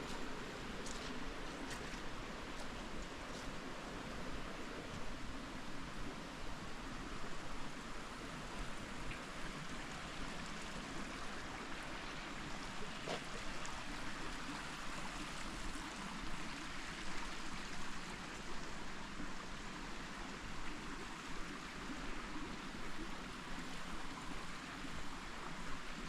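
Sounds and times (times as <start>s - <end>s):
creek flowing over rocks: 0.0s - 26.0s.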